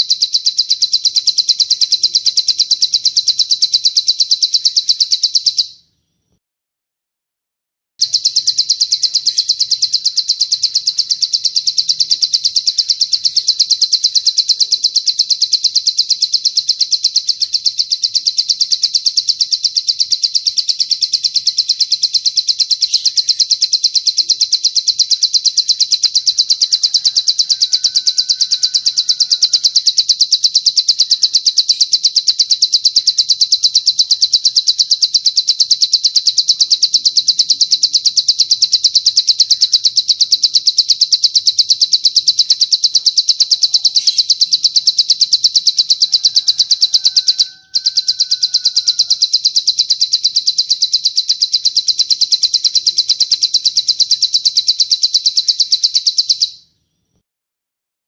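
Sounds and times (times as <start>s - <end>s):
high-pitched bird trill: 0.0s - 6.4s, 8.0s - 57.2s.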